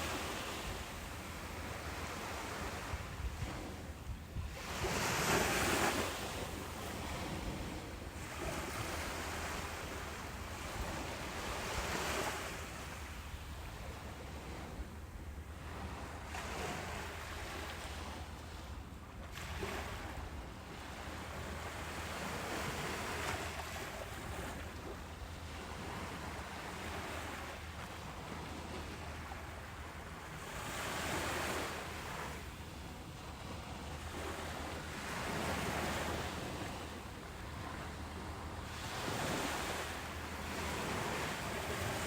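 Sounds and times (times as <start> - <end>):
ocean waves breaking on beach: 0.0 - 42.0.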